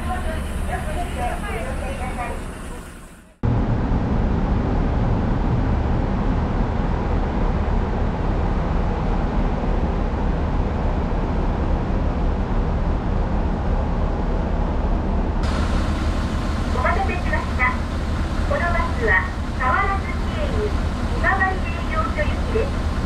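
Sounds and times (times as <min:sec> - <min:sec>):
large vehicle engine rumble: 0:00.0 - 0:23.0.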